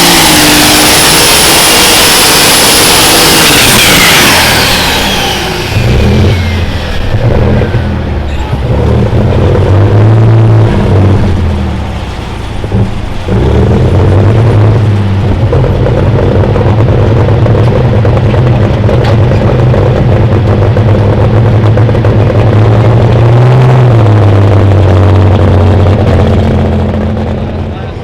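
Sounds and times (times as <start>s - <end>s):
tractor engine under full load: 0.0s - 28.0s.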